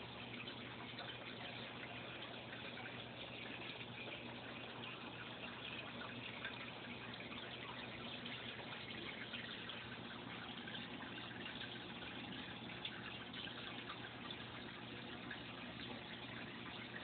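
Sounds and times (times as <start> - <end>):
aquarium water trickling and bubbling: 0.0 - 17.0
low steady hum: 0.0 - 17.0.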